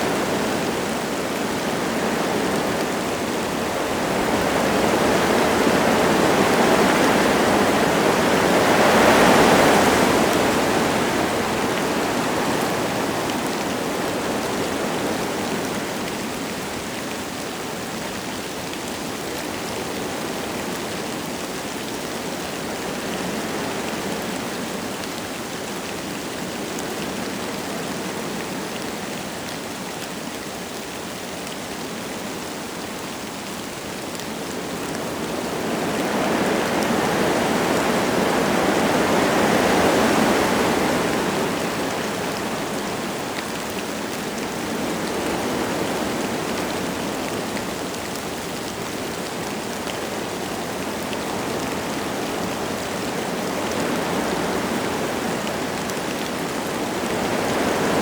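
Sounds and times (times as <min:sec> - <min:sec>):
light rain falling: 0:00.0 - 0:58.0
wind gusting through trees: 0:00.0 - 0:58.0.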